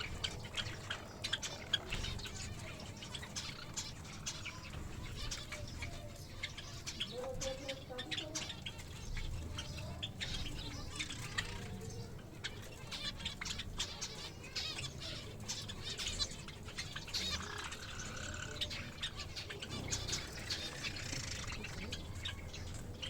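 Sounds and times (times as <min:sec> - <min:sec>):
finches chirping: 0:00.0 - 0:23.0.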